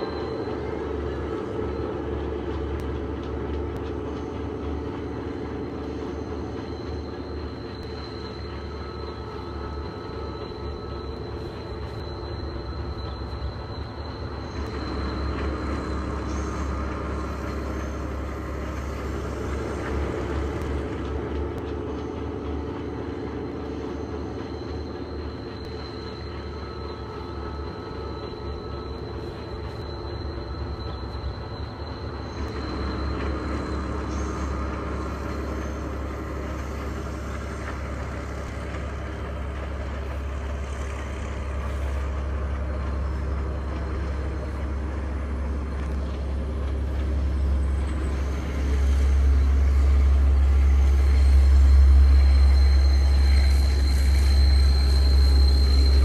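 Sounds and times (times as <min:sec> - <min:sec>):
diesel train engines under load: 0:00.0 - 0:56.0
high steady wheel squeal: 0:00.0 - 0:56.0.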